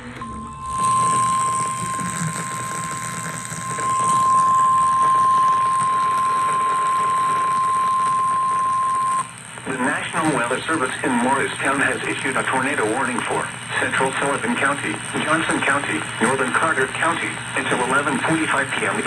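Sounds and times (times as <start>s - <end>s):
broadcast hiss: 0.0s - 19.0s.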